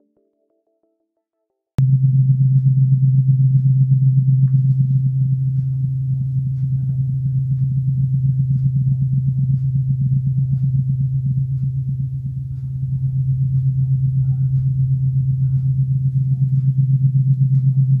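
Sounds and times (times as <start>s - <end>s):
low fluttering hum: 1.8s - 18.0s.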